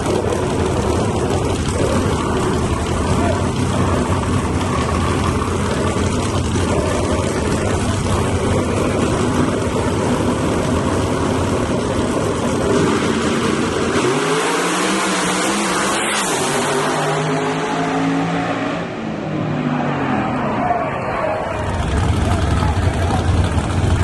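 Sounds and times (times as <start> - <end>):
car engine revving: 0.0 - 24.0
drag racing car engines rumbling: 0.0 - 24.0.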